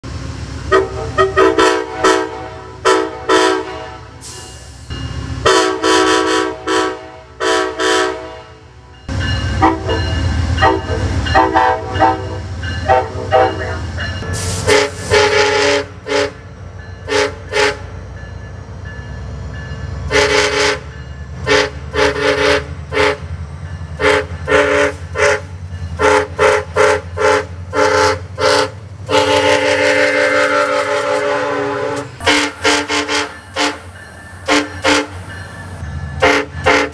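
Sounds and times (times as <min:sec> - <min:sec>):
locomotive horn blasts: 0:00.7 - 0:04.5, 0:05.4 - 0:08.8, 0:09.5 - 0:18.0, 0:20.0 - 0:23.3, 0:24.0 - 0:35.2, 0:36.2 - 0:36.9
locomotive horn short toots: 0:00.7 - 0:04.7, 0:05.4 - 0:08.7, 0:09.5 - 0:18.0, 0:20.1 - 0:23.3, 0:24.0 - 0:35.3, 0:36.2 - 0:36.9.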